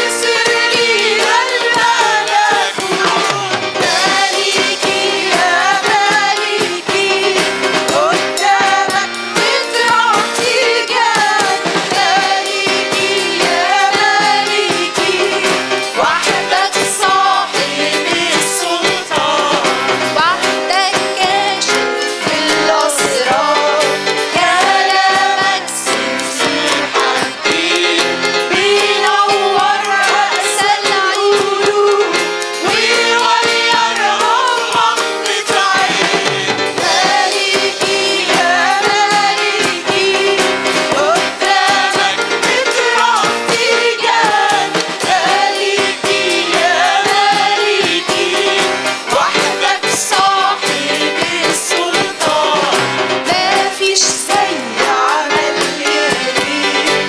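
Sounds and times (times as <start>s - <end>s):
accordion: 0.0s - 57.0s
electronic keyboard: 0.0s - 57.0s
guitar: 0.0s - 57.0s
women singing together: 0.0s - 57.0s.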